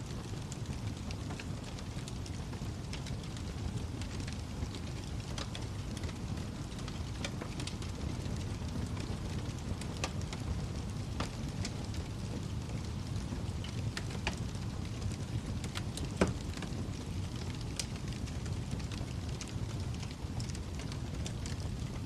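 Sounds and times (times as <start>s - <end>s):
fire crackling and popping: 0.0s - 22.0s
fire flames rumbling: 0.0s - 22.0s.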